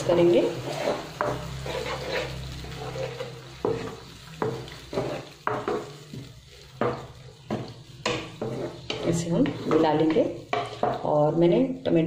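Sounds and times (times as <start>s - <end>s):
spatula scraping pan: 0.0s - 11.1s.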